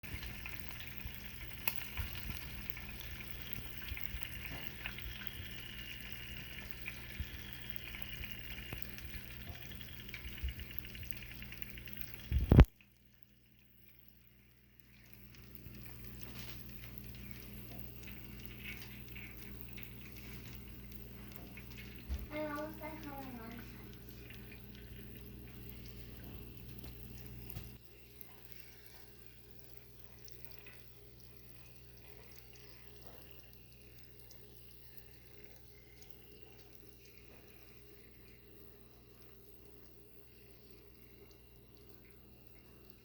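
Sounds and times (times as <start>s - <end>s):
roast sizzling and spitting: 0.0s - 43.0s.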